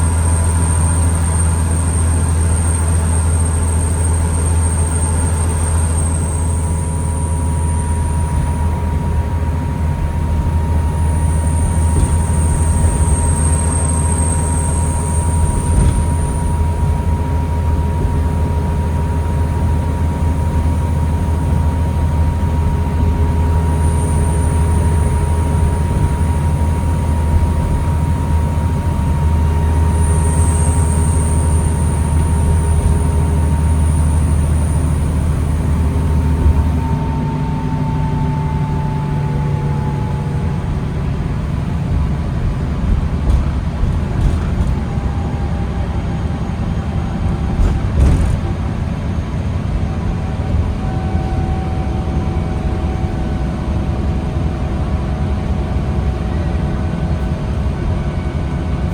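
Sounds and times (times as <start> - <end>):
bus engine rumbling: 0.0 - 58.9
high-pitched whine: 0.0 - 58.9.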